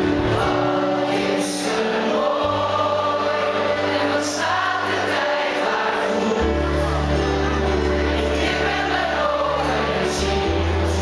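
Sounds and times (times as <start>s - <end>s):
band accompaniment with chords: 0.0s - 11.0s.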